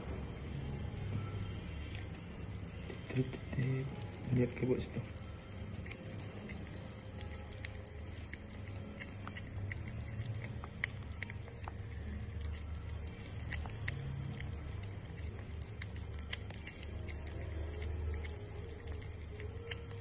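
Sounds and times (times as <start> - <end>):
low steady rumble: 0.0 - 20.0
cat tongue clicks licking: 1.8 - 20.0.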